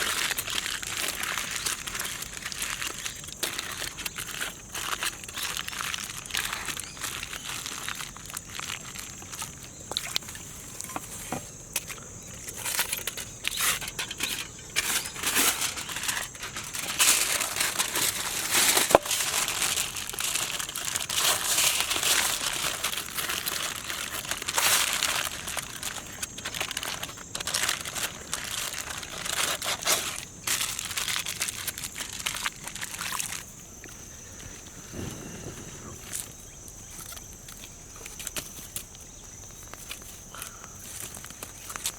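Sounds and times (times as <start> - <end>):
aluminum foil crinkling: 0.0 - 41.9.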